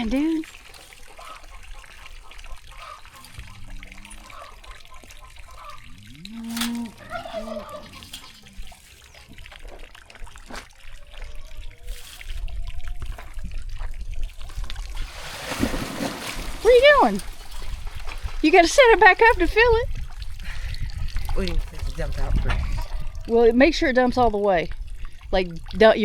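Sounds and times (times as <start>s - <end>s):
water pouring from container: 0.0s - 23.5s.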